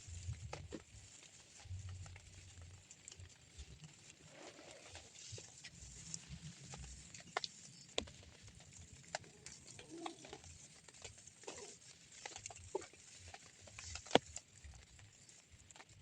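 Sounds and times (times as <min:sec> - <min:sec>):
raindrops pattering: 0:00.0 - 0:16.0.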